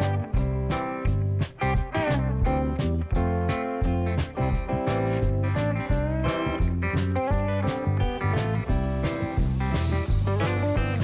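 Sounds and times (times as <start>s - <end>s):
plucked guitar over bass and beat: 0.0s - 11.0s.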